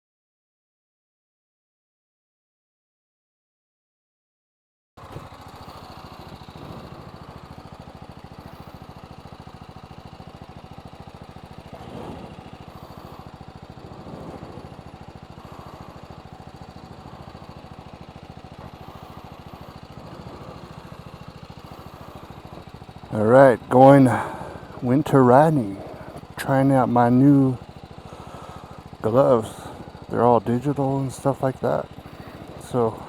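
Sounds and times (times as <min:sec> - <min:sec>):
motorcycle engine idling: 0:05.0 - 0:33.0.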